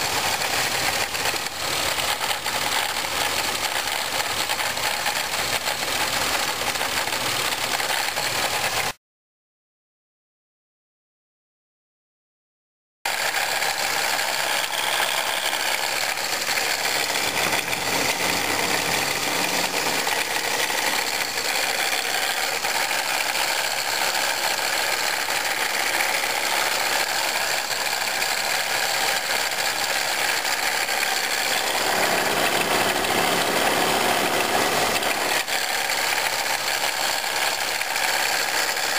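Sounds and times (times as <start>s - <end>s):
car engine idling: 0.0s - 8.9s, 13.1s - 38.9s
rattling grinding supercharger: 0.0s - 9.0s, 13.1s - 38.9s.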